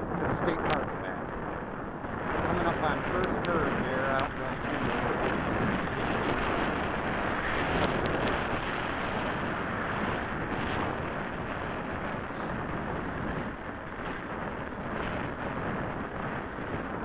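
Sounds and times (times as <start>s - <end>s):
road noise: 0.0s - 17.0s
wind rumbling on microphone: 0.0s - 17.0s.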